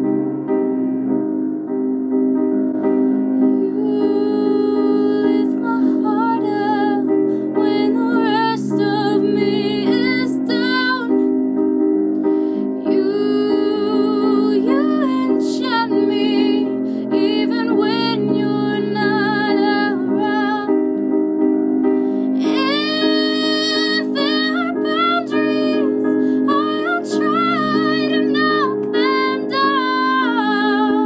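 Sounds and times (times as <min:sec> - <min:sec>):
sustained keyboard chords: 0:00.0 - 0:31.0
woman singing a slow ballad: 0:03.4 - 0:11.3, 0:12.4 - 0:21.0, 0:22.2 - 0:31.0.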